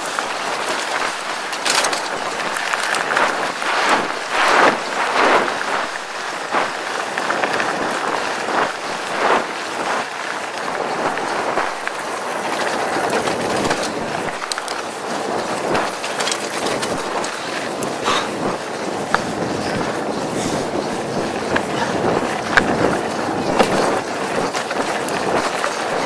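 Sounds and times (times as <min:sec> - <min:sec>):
bike rattling over bumps: 0:00.0 - 0:26.0
bike tyres crunching on dirt: 0:00.0 - 0:26.0.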